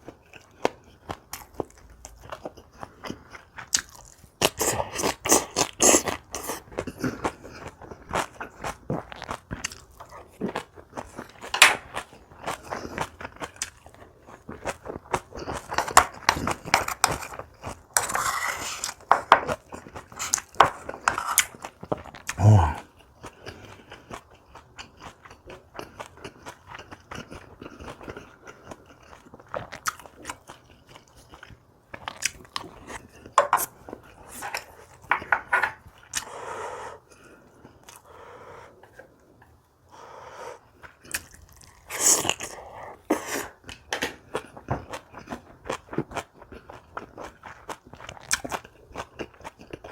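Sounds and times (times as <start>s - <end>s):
person chewing crunchy food: 0.0s - 39.6s, 40.6s - 49.9s.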